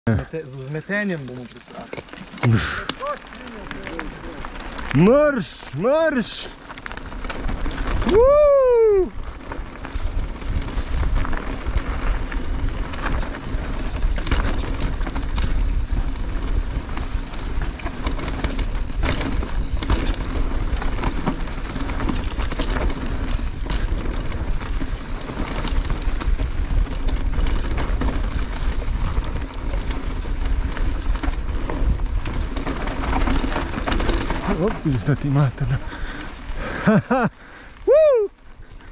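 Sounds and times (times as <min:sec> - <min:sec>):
bike rattles and knocks: 0:00.1 - 0:37.5
bike rolling rumble: 0:00.1 - 0:38.9
wind noise: 0:07.0 - 0:38.9.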